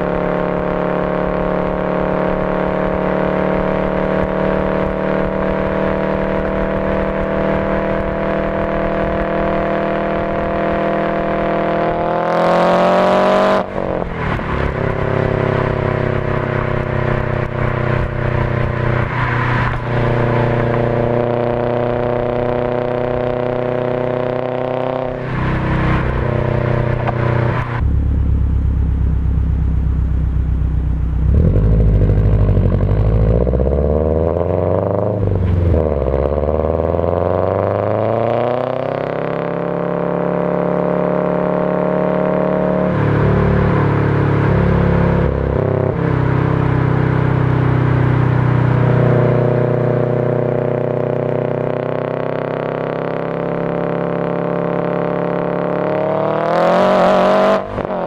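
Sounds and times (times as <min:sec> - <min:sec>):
turbocharged car engine revving: 0:00.0 - 0:58.0.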